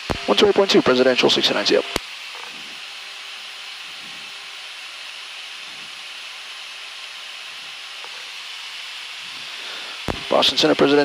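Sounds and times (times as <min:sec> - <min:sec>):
cockpit airflow hiss: 0:00.0 - 0:04.4, 0:05.5 - 0:11.0.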